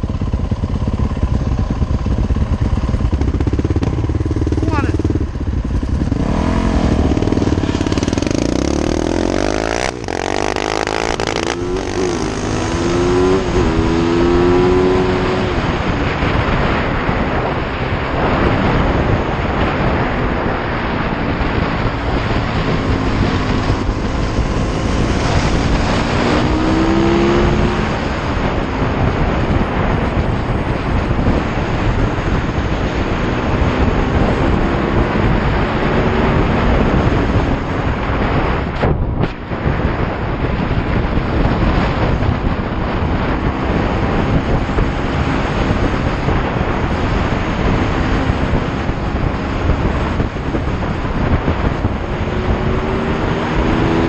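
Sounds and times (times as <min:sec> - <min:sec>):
dirt bike engine accelerating: 0:00.0 - 0:54.0
wind rushing over microphone: 0:00.0 - 0:54.0.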